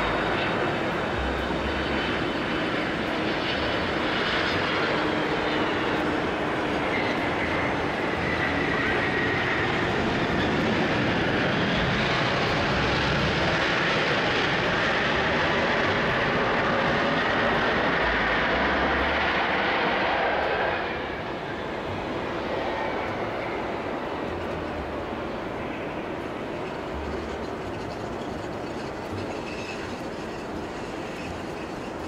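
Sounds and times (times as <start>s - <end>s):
jet engines rushing with whine: 0.0s - 32.0s.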